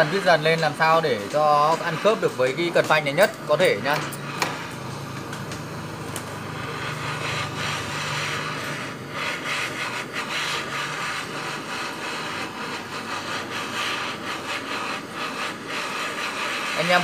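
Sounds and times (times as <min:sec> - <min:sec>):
gas torch hissing: 0:00.0 - 0:17.0.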